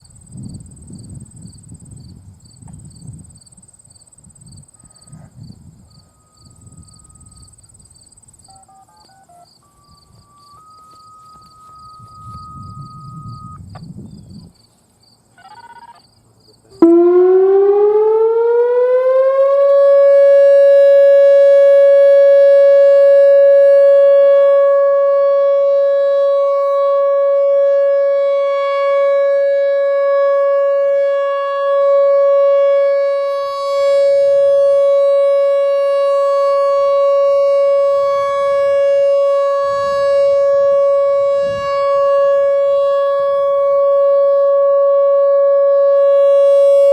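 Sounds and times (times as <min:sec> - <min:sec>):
warning siren rising steady tone: 0:04.7 - 0:07.8, 0:08.5 - 0:14.5, 0:16.8 - 0:46.9.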